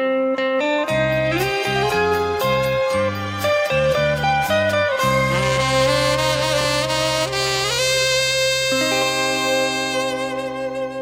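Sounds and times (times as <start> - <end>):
saxophone lead line: 0.6 - 11.0
bass line: 0.8 - 11.0.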